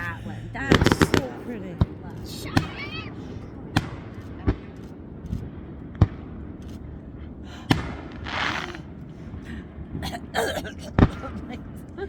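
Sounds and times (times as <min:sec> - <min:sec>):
fireworks hissing burst: 0:00.0 - 0:09.8
fireworks bangs: 0:00.0 - 0:12.0.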